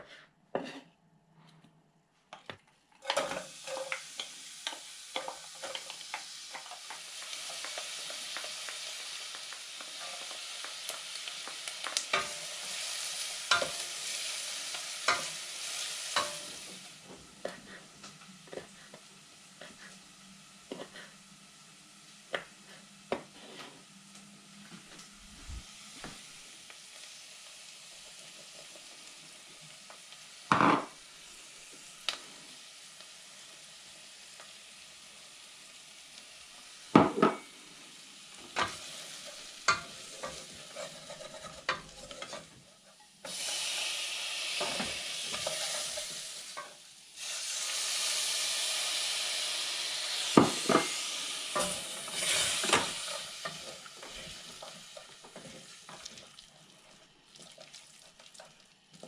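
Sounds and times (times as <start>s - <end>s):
vegetables frying in a pot: 2.8s - 59.0s.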